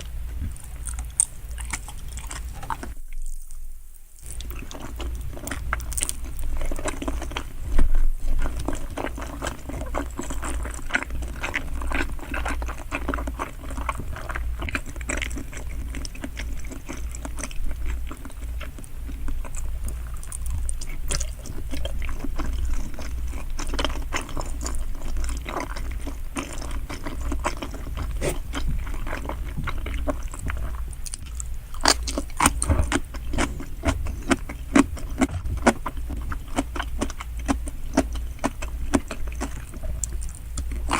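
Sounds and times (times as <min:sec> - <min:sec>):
wet chewing mouth sounds: 0:00.0 - 0:03.6, 0:04.2 - 0:40.9
low steady hum: 0:00.0 - 0:40.9.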